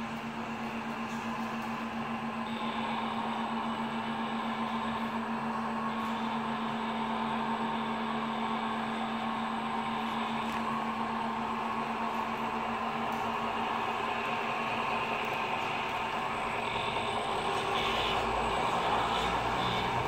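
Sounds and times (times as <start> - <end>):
simulated truck engine hum: 0.0 - 20.0.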